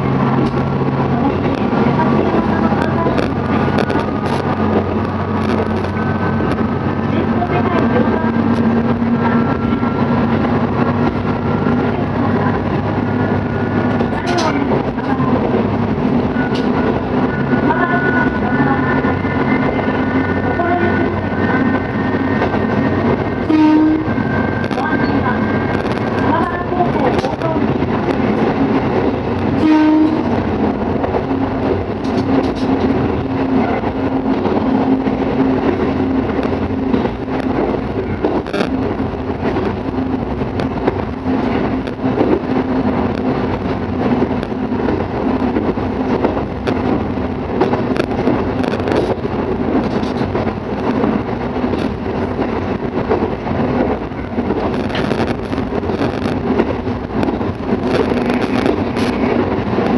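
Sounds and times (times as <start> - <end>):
train engine and wheels droning: 0.0 - 59.9.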